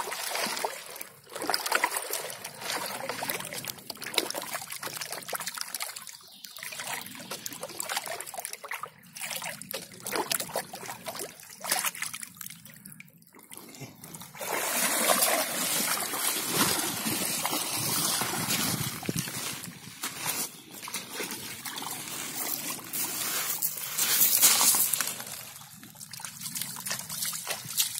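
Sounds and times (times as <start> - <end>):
boots wading through water: 0.0 - 12.8, 14.0 - 27.9
water splashing and trickling: 0.0 - 27.9.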